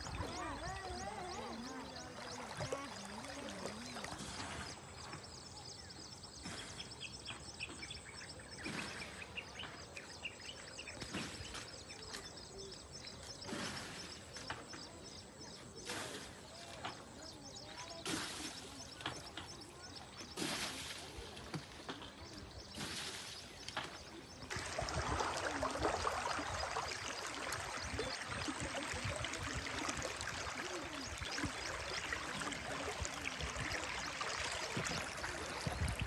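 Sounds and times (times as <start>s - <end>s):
small birds chirping: 0.0s - 24.6s, 25.3s - 36.0s.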